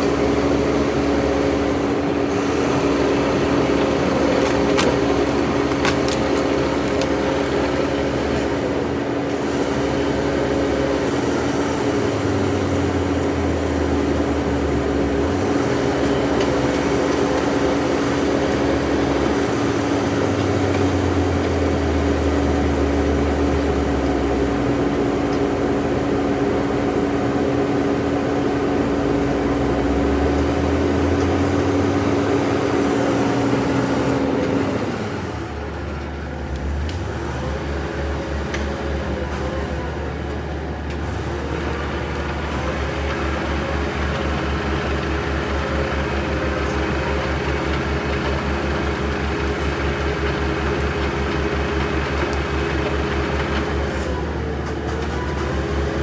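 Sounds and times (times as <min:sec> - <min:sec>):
heavy machine diesel engine running: 0:00.0 - 0:56.0.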